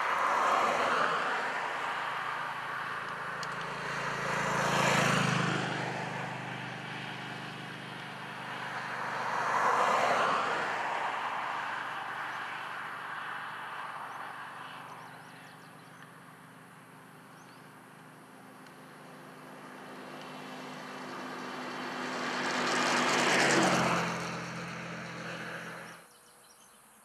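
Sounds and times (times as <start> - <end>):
highway traffic passing: 0.0 - 26.2.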